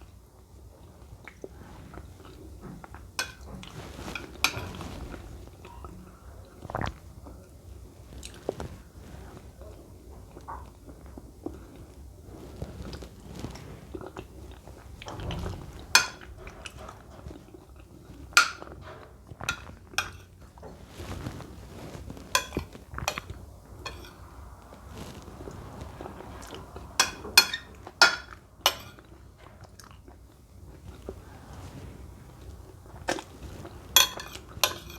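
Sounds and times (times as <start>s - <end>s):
chewing mashed food: 0.8s - 34.9s.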